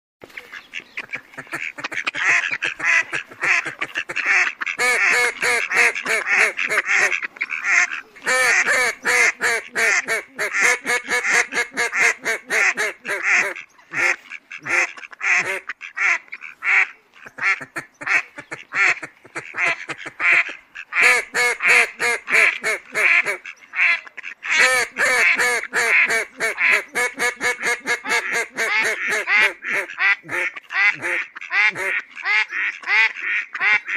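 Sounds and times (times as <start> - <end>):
ducks quacking: 0.2 - 33.9.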